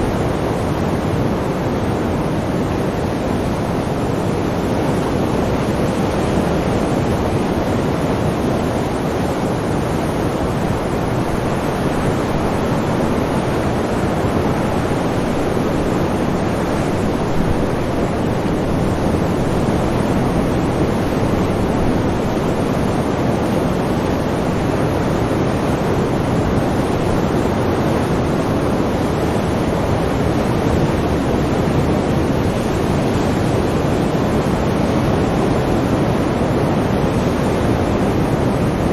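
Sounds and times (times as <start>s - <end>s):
sea waves rushing: 0.0s - 38.9s.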